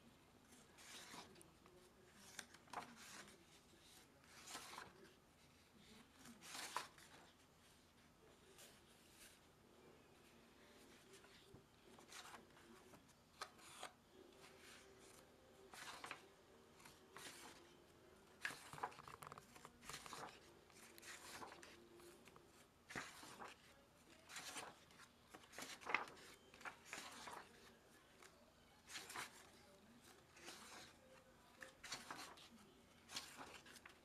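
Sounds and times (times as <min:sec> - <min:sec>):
paper pages rustling: 0:00.4 - 0:09.6, 0:10.2 - 0:34.0.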